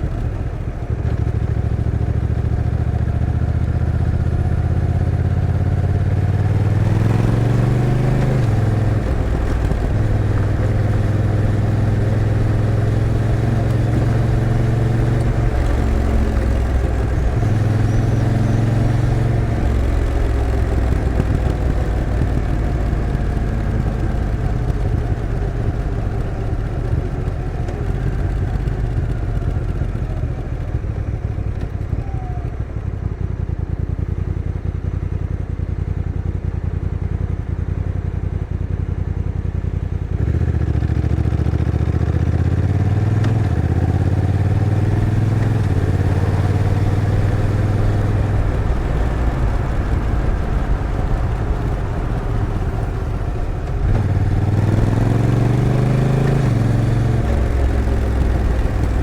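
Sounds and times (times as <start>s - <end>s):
motorcycle engine shifting gears: 0.0s - 37.8s, 39.6s - 59.0s.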